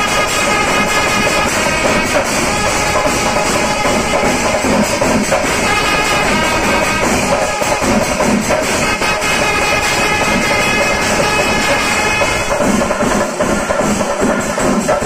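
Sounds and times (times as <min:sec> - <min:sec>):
fast drumming: 0:00.0 - 0:15.0
hand cymbals clashing: 0:00.0 - 0:15.0.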